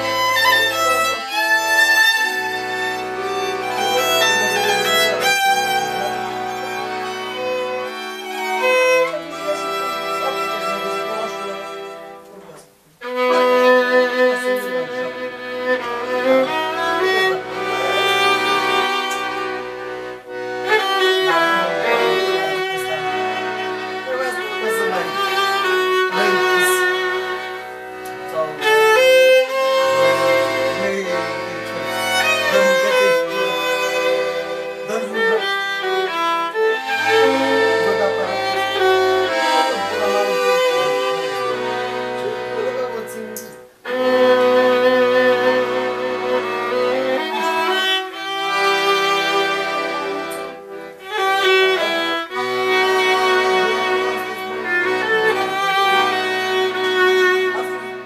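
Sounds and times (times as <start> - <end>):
accordion bass notes: 0.0 - 58.0
violin melody: 0.0 - 58.0.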